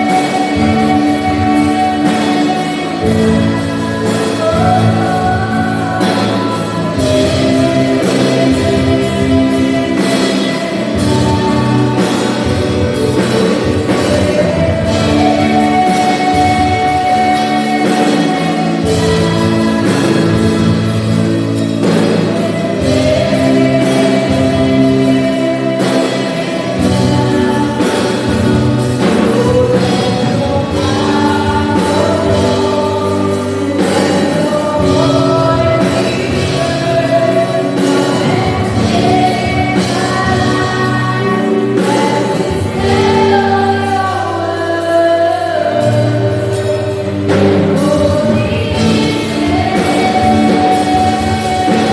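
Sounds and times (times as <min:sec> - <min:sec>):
church band playing: 0:00.0 - 0:51.9
worship team singing: 0:00.0 - 0:51.9.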